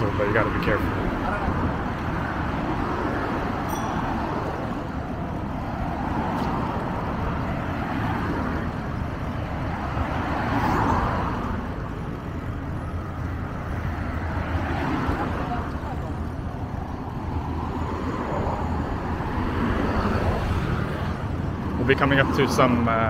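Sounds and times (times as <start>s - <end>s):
passing cars: 0.0s - 23.0s.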